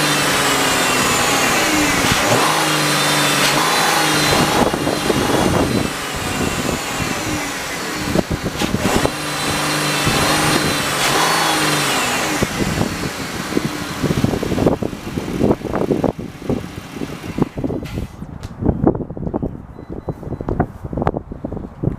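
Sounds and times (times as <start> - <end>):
engine revving and idling: 0.0 - 18.2
wind on microphone: 0.0 - 21.9.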